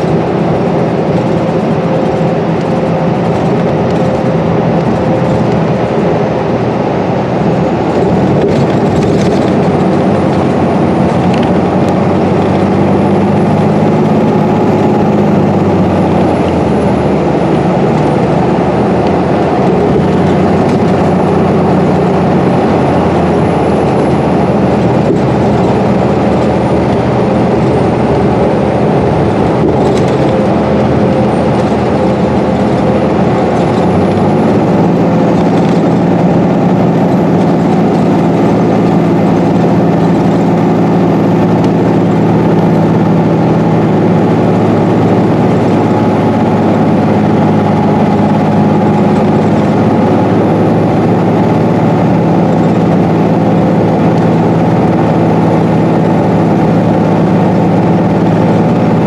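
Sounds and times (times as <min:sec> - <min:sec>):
bus engine hum: 0:00.0 - 0:59.0
road and tyre noise: 0:00.0 - 0:59.0.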